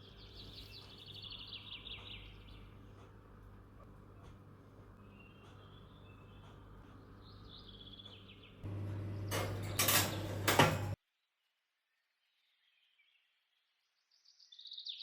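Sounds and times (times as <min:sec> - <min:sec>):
faint bird chirping: 0:00.0 - 0:08.6, 0:11.1 - 0:15.0.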